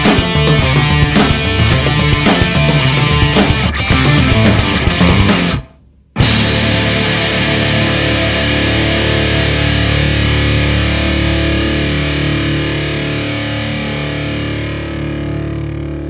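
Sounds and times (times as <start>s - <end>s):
distorted electric guitar chord ringing: 0.0s - 16.0s
bass guitar sustaining chord: 0.1s - 16.0s.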